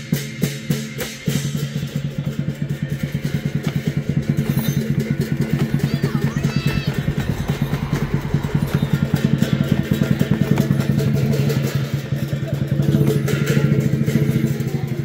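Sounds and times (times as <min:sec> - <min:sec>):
cymbals: 0:00.0 - 0:15.0
drum beating fast: 0:00.0 - 0:15.0.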